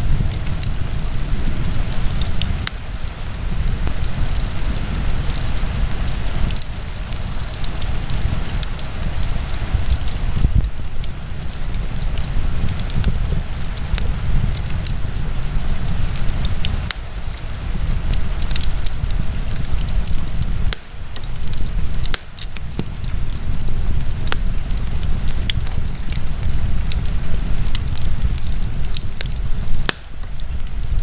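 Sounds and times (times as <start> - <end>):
fire crackling and popping: 0.0 - 31.0
low fire rumble: 0.0 - 31.0.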